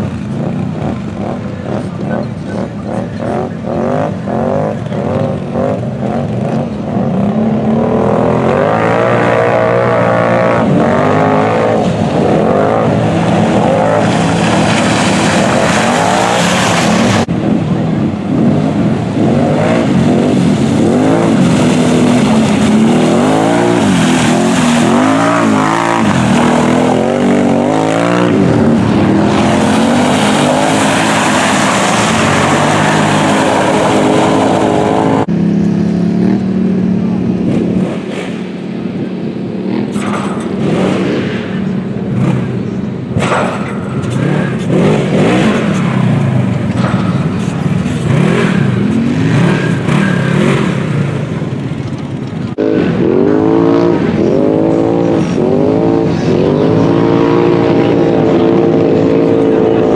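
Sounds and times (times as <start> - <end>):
engines revving through mud: 0.0 - 59.9.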